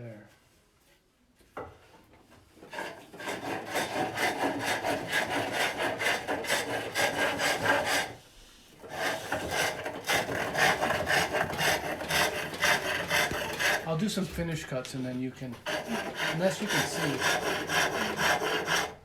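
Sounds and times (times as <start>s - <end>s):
tool scraping spinning wood: 2.5s - 8.2s, 8.8s - 19.0s.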